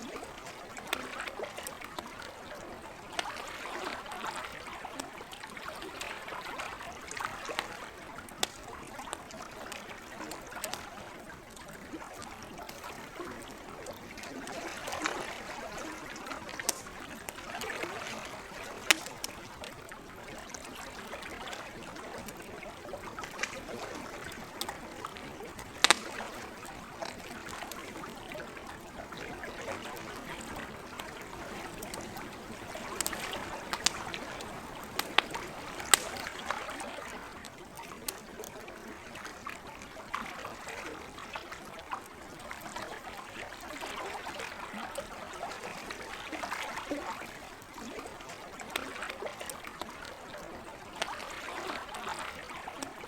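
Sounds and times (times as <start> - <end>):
campfire crackling: 0.0 - 53.0
lake water washing: 0.0 - 53.0.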